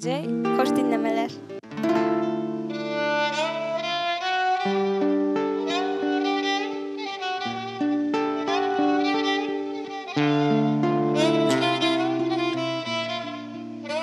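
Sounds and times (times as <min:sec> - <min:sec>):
acoustic guitar chords: 0:00.0 - 0:14.0
violin gliding melody: 0:00.2 - 0:14.0.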